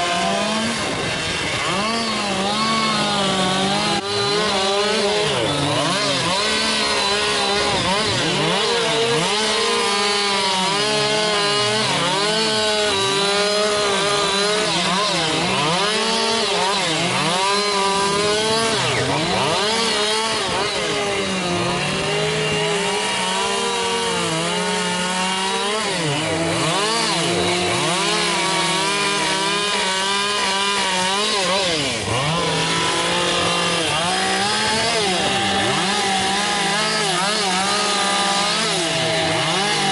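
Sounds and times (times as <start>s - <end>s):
chainsaw carving wood: 0.0s - 39.9s.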